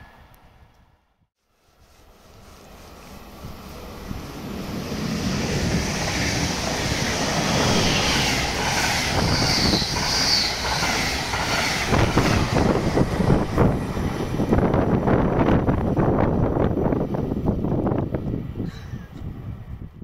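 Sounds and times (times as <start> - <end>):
high hiss of train: 1.4 - 19.9
train passing at speed: 2.0 - 20.0.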